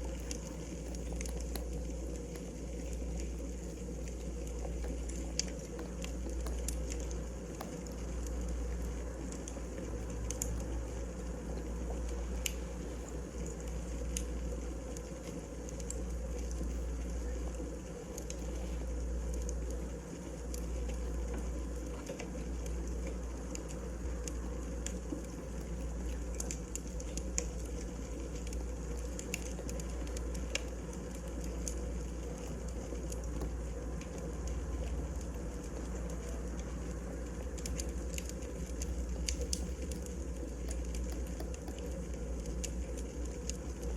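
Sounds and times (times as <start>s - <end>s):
fire low rumble: 0.0s - 43.9s
firewood crackling and popping: 0.0s - 43.9s.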